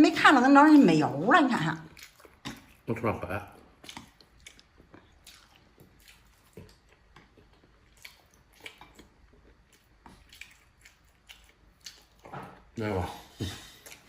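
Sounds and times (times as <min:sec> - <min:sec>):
chewing: 0:00.5 - 0:14.0.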